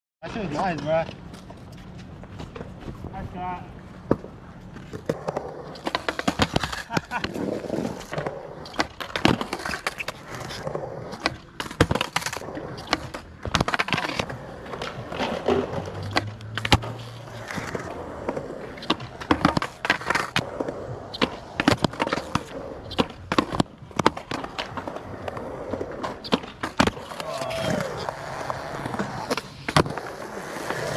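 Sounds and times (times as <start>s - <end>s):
skateboard wheels rolling on concrete: 0.2s - 30.9s
skateboard clacking on concrete: 4.0s - 30.9s.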